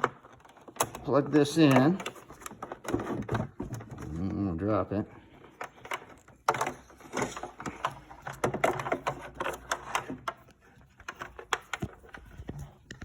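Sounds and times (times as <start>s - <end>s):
handling clicks and knocks: 0.0s - 13.0s.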